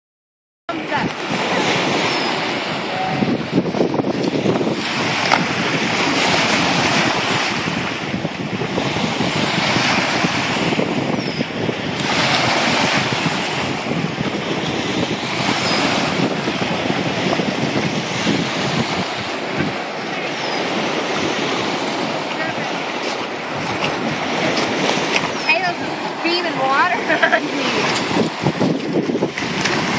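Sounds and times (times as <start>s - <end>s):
wind buffeting microphone: 0.7s - 29.9s
waves washing on pebble shore: 4.2s - 29.9s.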